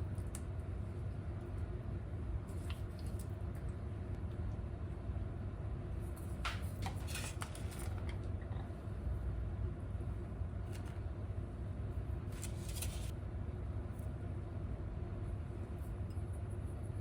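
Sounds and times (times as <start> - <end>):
ventilation fan hum: 0.0 - 17.0.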